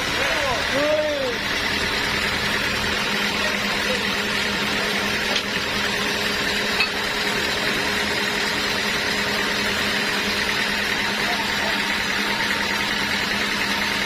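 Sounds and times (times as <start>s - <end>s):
sawmill machinery running: 0.0s - 14.0s.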